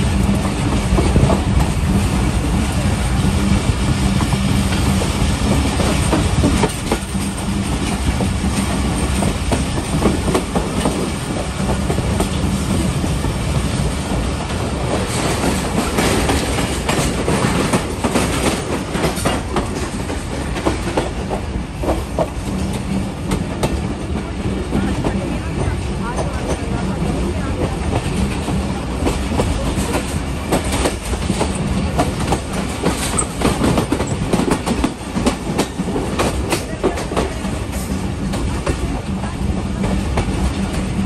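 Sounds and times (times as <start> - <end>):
train rumble: 0.0 - 41.0
wheels clacking over rail joints: 0.0 - 41.0.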